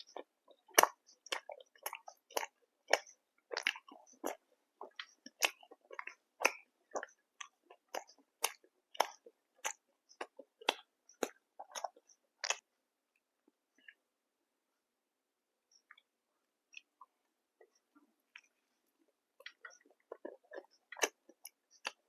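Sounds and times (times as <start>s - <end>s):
person chewing food: 0.0s - 12.7s, 16.7s - 22.0s.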